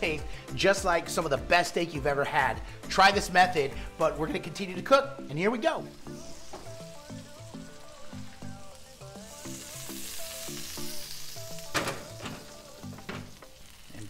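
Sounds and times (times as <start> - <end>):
light background music: 0.0 - 14.0
meat sizzling in butter: 2.6 - 14.0.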